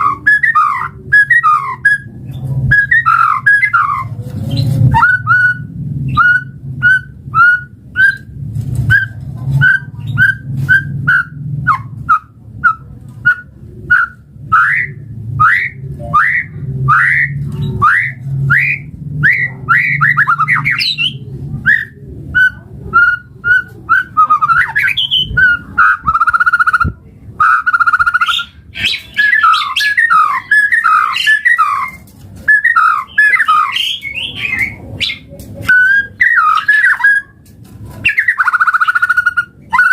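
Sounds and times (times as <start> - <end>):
bird singing whistles and trills: 0.0 - 8.3, 8.9 - 37.4, 38.0 - 39.9.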